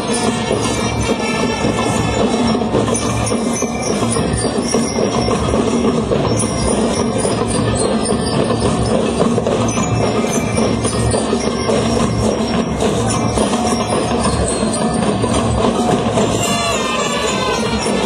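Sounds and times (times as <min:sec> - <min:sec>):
bell lyres ringing: 0:00.0 - 0:18.0
marching band playing: 0:00.0 - 0:18.0
steady drum beat: 0:00.0 - 0:18.0.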